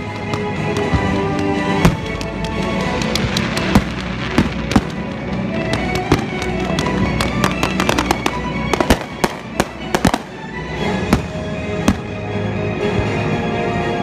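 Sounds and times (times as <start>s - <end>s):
fireworks bangs and crackling: 0.0s - 12.3s
music: 0.0s - 14.0s.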